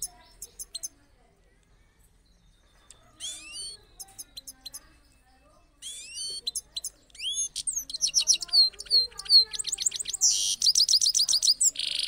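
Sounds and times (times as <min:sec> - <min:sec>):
goldfinch twittering song: 0:00.0 - 0:01.0, 0:02.2 - 0:12.0.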